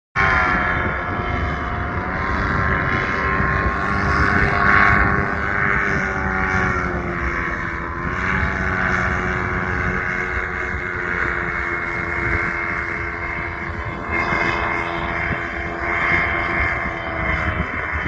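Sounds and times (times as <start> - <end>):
low-flying aircraft engine droning: 0.2 - 18.0.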